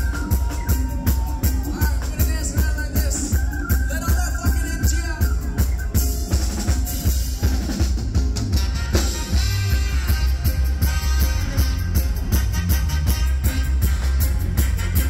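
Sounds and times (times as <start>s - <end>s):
bass guitar: 0.0s - 15.0s
drum kit: 0.0s - 15.0s
percussion: 0.0s - 15.0s.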